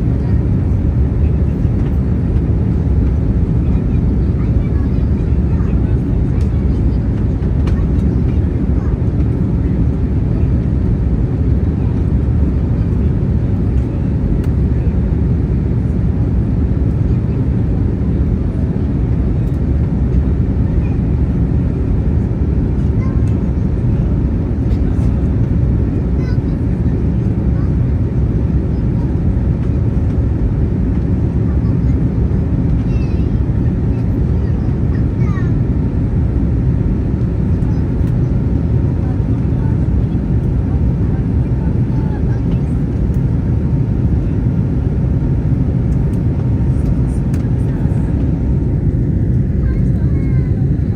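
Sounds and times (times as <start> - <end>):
airplane cabin engine rumble: 0.0 - 50.9.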